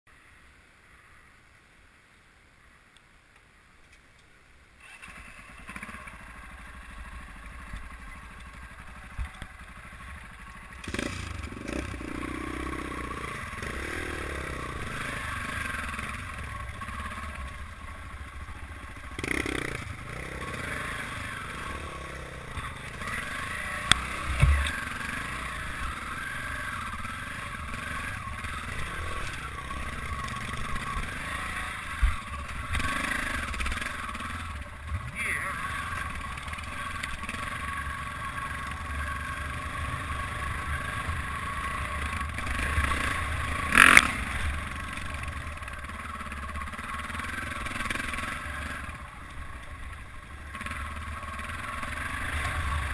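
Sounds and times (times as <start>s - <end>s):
dirt bike engine running: 4.9s - 52.9s.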